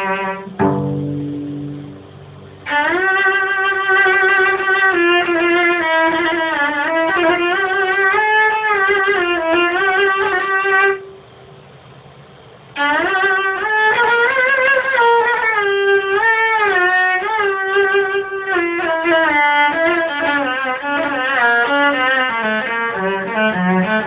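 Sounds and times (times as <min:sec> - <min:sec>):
solo cello melody: 0:00.0 - 0:11.3, 0:12.7 - 0:24.0.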